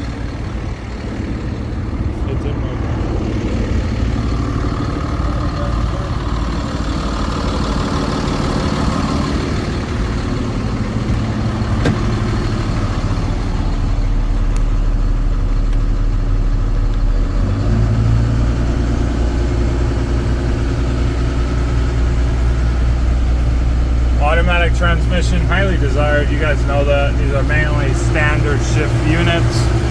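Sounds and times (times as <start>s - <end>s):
diesel engine idling: 0.0s - 29.9s.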